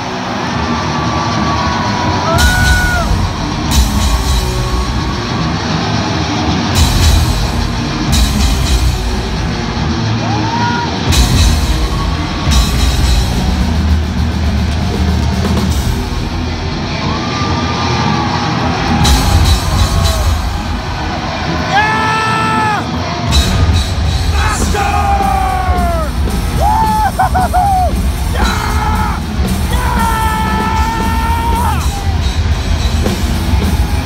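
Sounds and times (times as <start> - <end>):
drum kit: 0.0 - 34.0
heavy low drum and bass hits: 2.3 - 10.4, 11.1 - 17.1, 18.8 - 21.7, 23.2 - 34.0.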